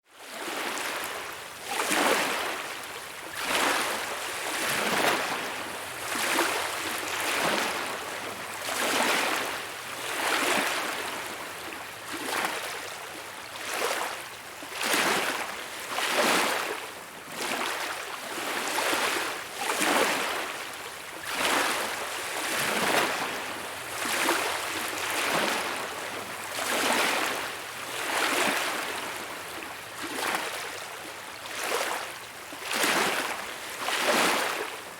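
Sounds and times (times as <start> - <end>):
small waves washing on beach: 0.2 - 34.9.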